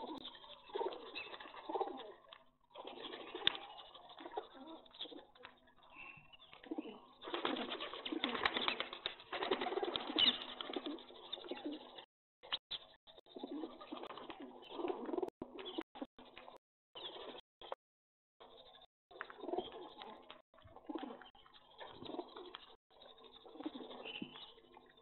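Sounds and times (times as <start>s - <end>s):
pigeons cooing: 0.0s - 17.4s, 18.4s - 22.7s, 23.3s - 24.8s
bird calls: 0.0s - 17.8s, 18.4s - 25.0s.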